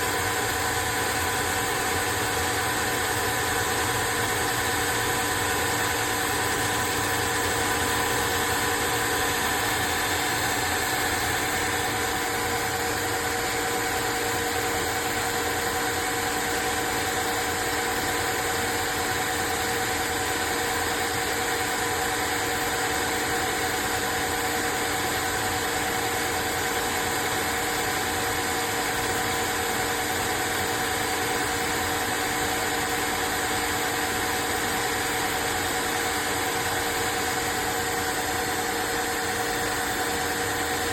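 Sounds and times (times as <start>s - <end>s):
floor vacuum motor whine: 0.0s - 40.9s.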